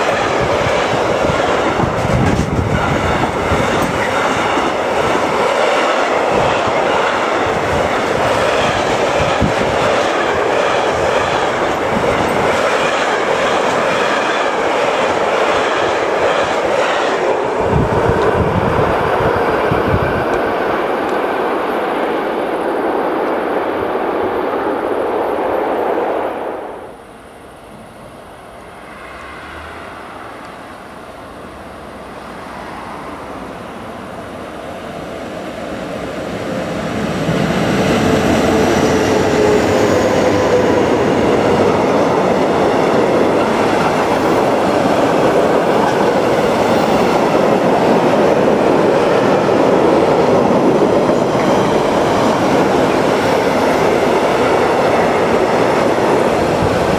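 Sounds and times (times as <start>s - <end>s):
freight train rumbling and clattering: 0.0s - 26.0s, 28.7s - 56.9s.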